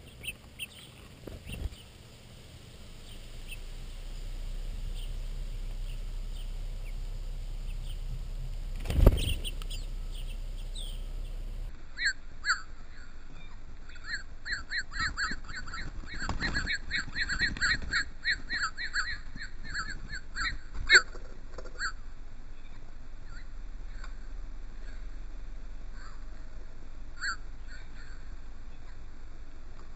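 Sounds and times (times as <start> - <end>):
small birds chirping: 0.0 - 25.2.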